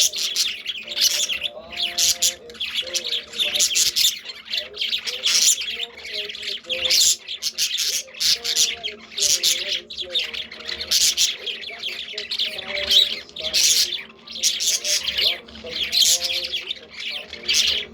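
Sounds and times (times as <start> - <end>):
budgerigars chirping and squawking: 0.0 - 17.9
faint christmas music on radio: 0.0 - 17.9.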